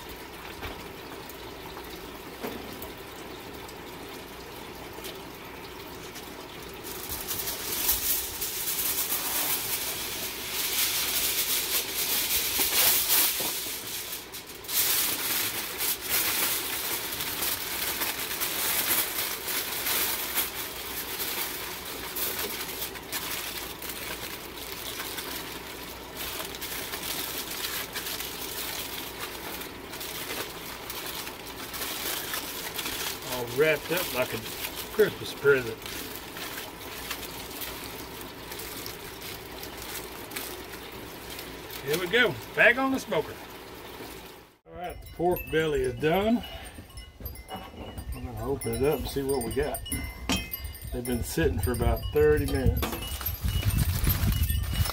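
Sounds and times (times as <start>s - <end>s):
aluminium foil crinkling: 4.8s - 44.6s, 46.6s - 54.9s.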